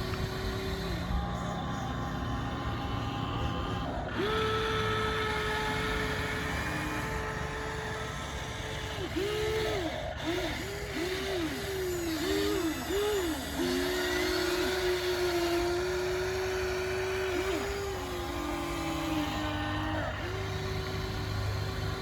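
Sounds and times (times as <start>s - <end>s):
toy electric motors whining: 0.0s - 22.0s.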